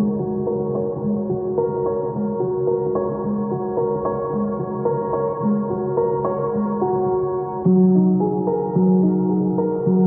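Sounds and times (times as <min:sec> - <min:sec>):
gentle ambient keyboard music: 0:00.0 - 0:10.0.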